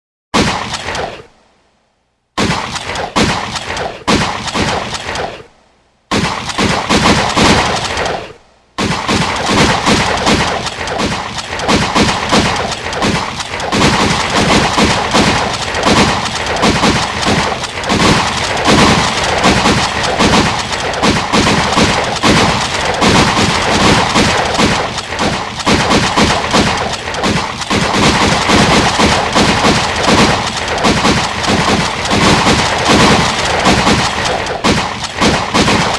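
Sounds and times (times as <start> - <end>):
gunshots echoing indoors: 0.4 - 1.4, 2.4 - 35.9.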